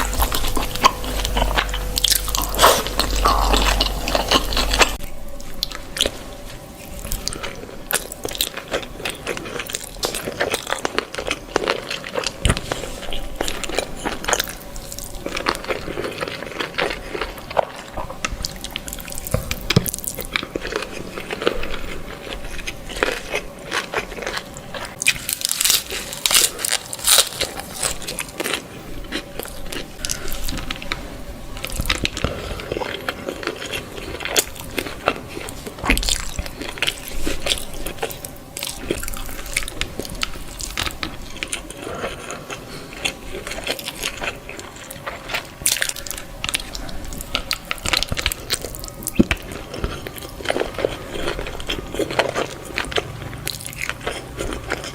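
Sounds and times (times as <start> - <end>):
chewing crunches: 0.0 - 54.9.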